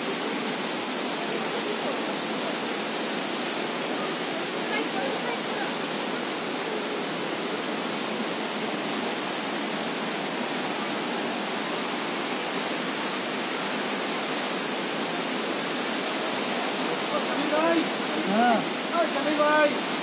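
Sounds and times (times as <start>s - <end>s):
stream cascading over boulders: 0.0s - 20.0s.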